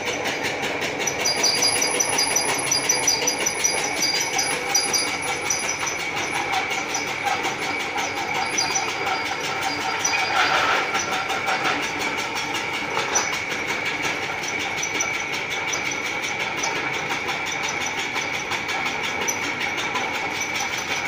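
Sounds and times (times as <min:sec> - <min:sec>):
husking machine whining and rattling: 0:00.0 - 0:21.0.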